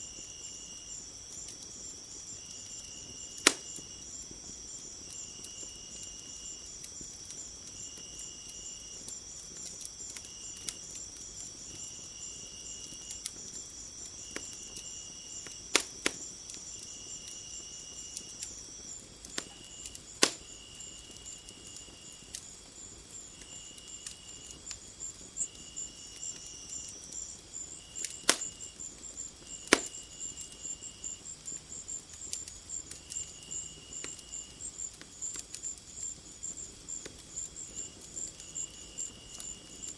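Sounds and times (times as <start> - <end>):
high insect trill: 0.0 - 39.9
low insect chirping: 0.0 - 39.9
wood fire crackling: 0.0 - 39.9.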